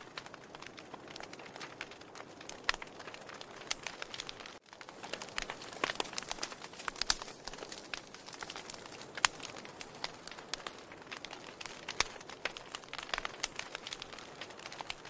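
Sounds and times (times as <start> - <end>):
burning wood crackling: 0.0 - 15.0.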